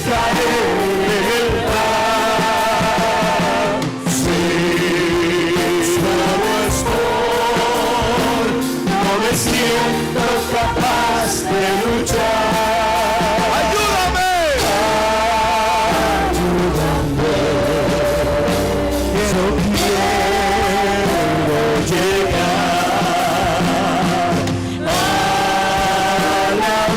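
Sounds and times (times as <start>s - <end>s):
band accompaniment: 0.0s - 26.9s.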